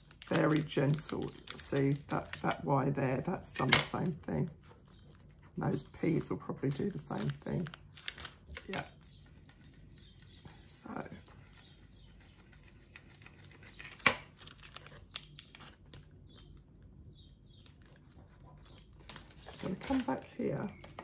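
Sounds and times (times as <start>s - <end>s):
vinyl lettering crinkling: 3.5s - 21.0s.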